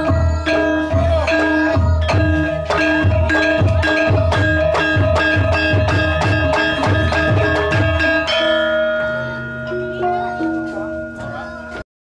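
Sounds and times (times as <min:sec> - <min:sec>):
hand drum beats: 0:00.0 - 0:11.8
metallophones and gongs struck: 0:00.0 - 0:11.8.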